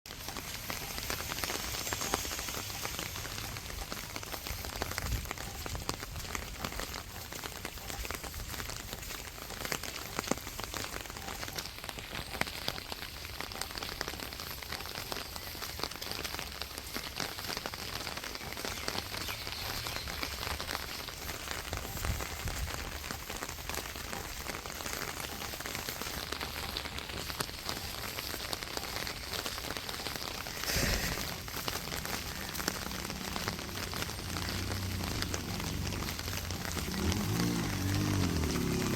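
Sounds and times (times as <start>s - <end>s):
steady rain on a street: 0.1s - 38.9s.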